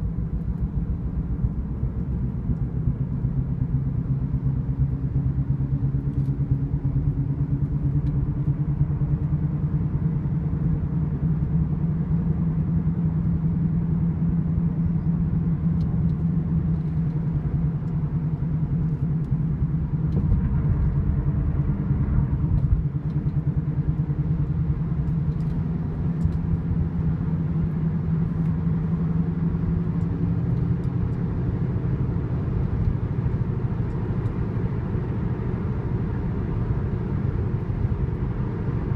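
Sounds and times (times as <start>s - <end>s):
low whirring drone: 0.0s - 38.9s
road rumble: 0.0s - 38.9s.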